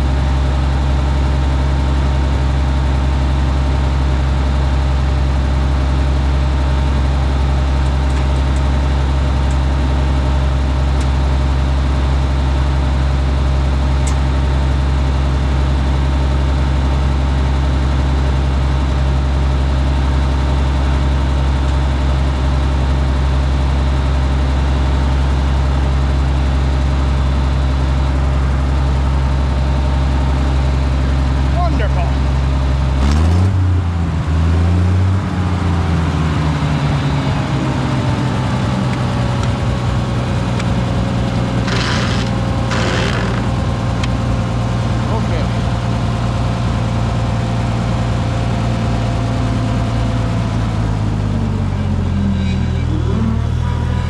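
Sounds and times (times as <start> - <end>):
tractor engine idling: 0.0 - 33.0, 37.4 - 54.0.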